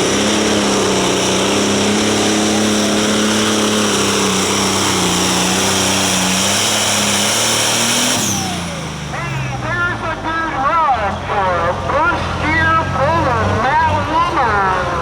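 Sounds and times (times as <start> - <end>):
diesel engine running hard: 0.0 - 15.0.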